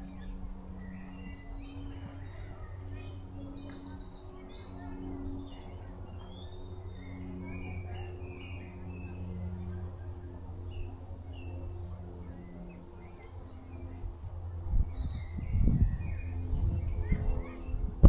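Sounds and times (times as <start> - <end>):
low hum: 0.0 - 18.0
songbirds singing: 0.0 - 18.0.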